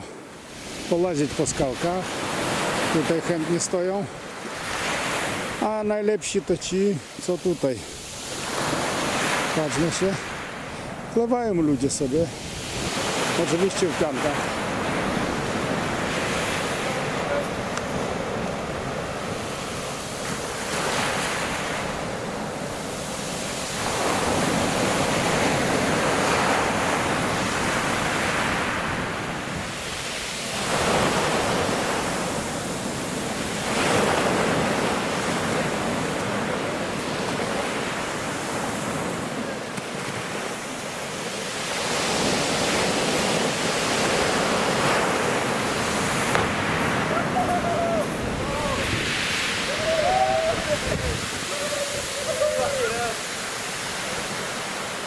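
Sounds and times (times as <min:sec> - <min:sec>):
rough waves breaking on shore: 0:00.0 - 0:55.0.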